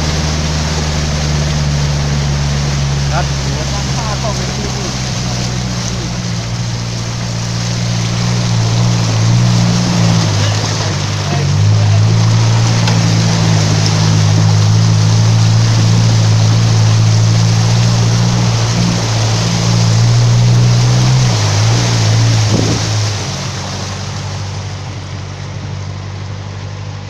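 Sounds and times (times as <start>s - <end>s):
tyre splashing water: 0.0s - 27.0s
vehicle engine under load: 0.0s - 27.0s.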